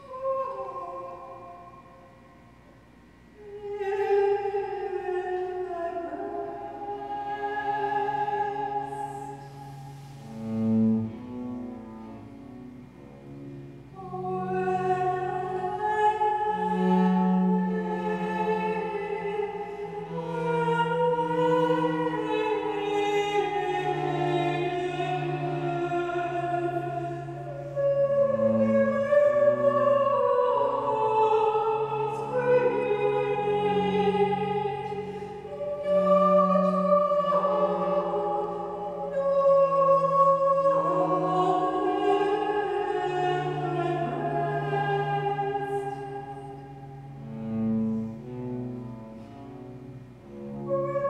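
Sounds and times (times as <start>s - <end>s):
woman singing operatically: 0.0s - 1.8s, 3.4s - 9.8s, 14.0s - 47.1s
bowed low string notes: 4.2s - 51.0s.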